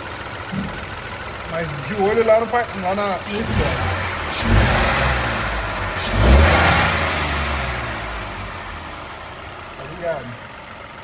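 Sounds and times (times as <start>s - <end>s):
car engine revving: 0.5s - 10.4s.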